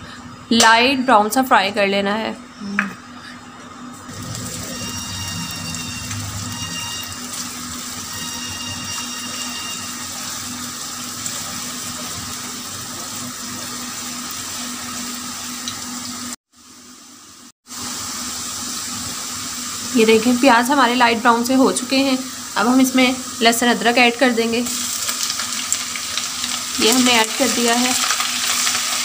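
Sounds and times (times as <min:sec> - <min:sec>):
onion sizzling in hot oil: 0:04.1 - 0:29.0.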